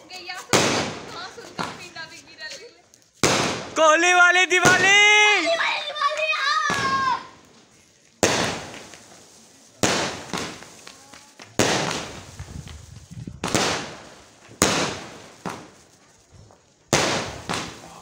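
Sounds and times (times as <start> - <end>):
fireworks bangs: 0.0 - 18.0
fireworks crackle: 0.0 - 18.0.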